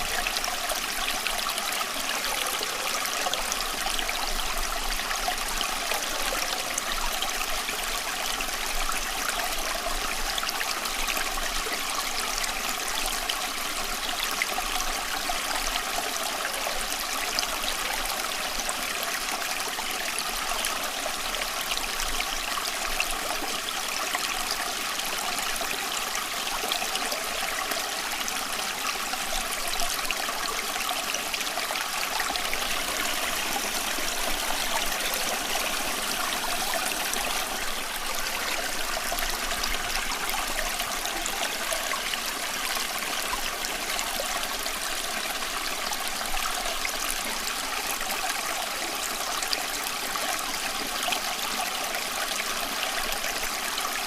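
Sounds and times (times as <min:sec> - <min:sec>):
running water flowing: 0:00.0 - 0:54.0.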